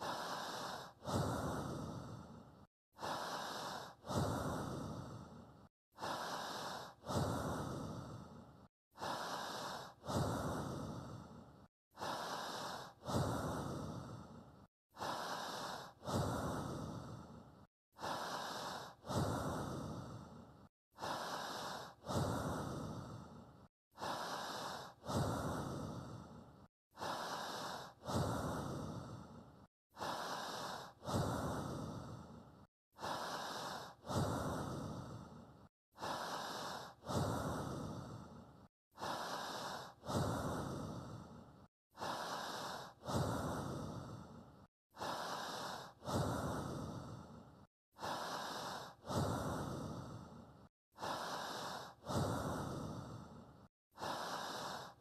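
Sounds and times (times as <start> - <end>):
human breathing: 0.0 - 55.0.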